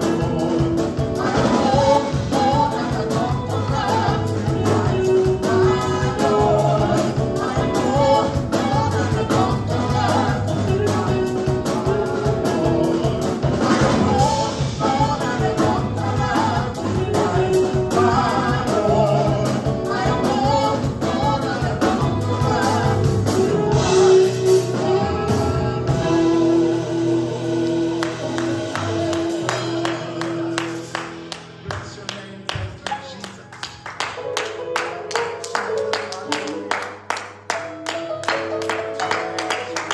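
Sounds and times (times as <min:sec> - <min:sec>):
bass: 0:00.0 - 0:39.9
gospel band playing upbeat song: 0:00.0 - 0:39.9.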